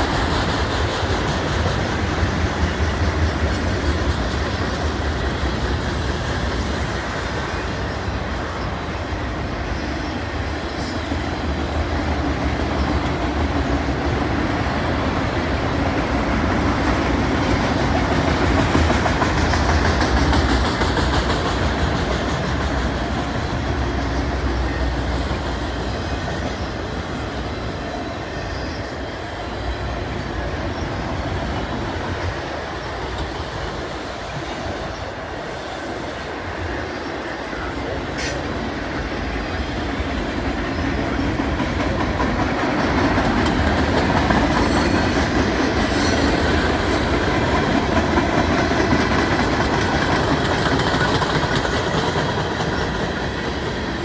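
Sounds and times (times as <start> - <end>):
freight train wheels rolling on rails: 0.0 - 54.0.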